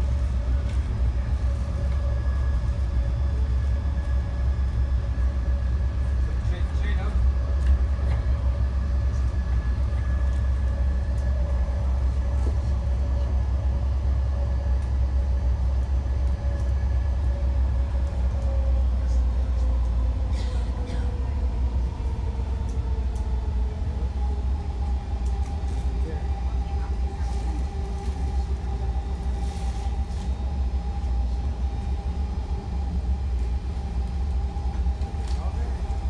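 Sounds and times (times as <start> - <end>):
train rumble with whining tones: 0.0 - 36.0.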